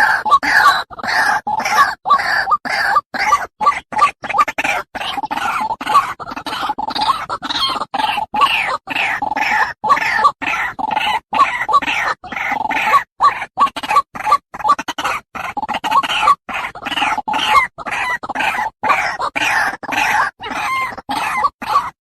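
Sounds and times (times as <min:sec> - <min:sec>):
bird croaking and grunting calls: 0:00.0 - 0:22.0.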